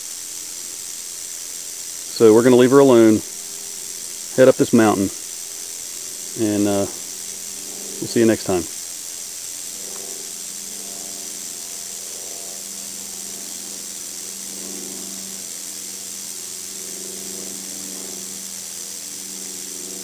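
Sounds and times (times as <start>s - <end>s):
rattlesnake rattling: 0.0s - 20.0s.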